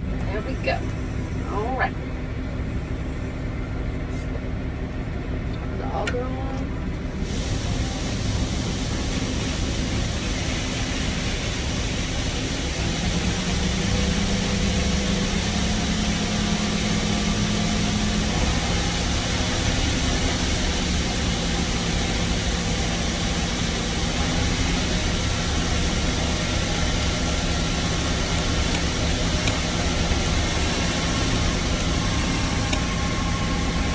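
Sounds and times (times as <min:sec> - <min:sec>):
constant cab hum: 0:00.0 - 0:33.9
tractor engine running: 0:00.0 - 0:33.9.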